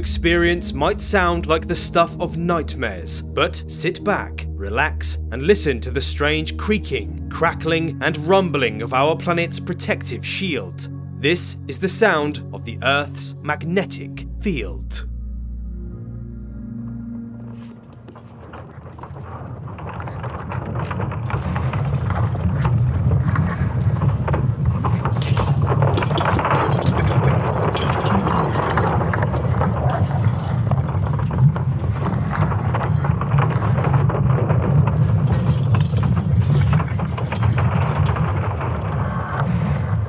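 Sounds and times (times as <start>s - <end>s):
deep rumble: 0.0s - 40.0s
dense crackling and creaking: 0.0s - 40.0s.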